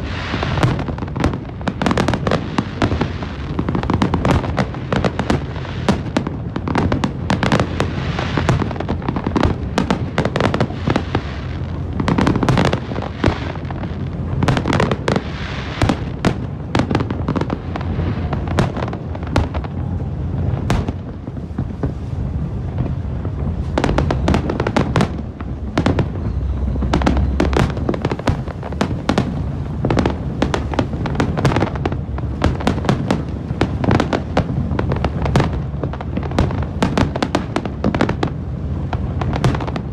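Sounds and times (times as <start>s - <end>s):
fireworks bangs and crackling: 0.0s - 39.9s
low rumble: 0.0s - 39.9s.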